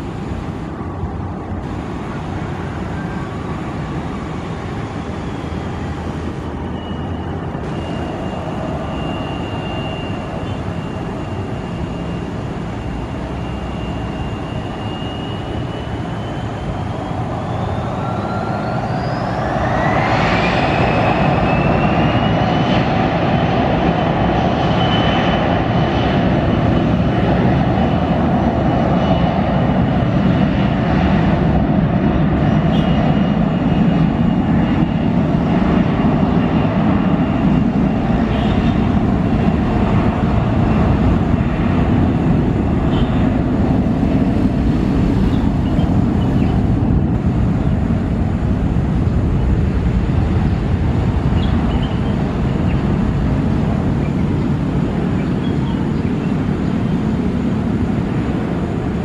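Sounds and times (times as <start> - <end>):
jet engines whining and roaring: 0.0 - 59.0.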